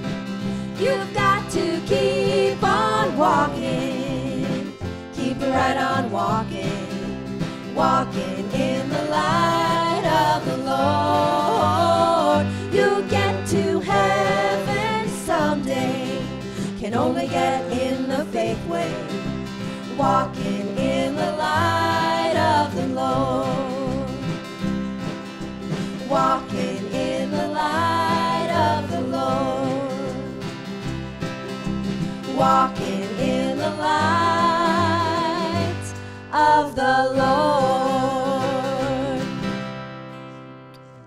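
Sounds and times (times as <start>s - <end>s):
cello: 0.0s - 39.8s
acoustic guitar: 0.0s - 41.0s
women singing in harmony: 0.6s - 24.4s, 25.8s - 30.5s, 32.2s - 39.5s.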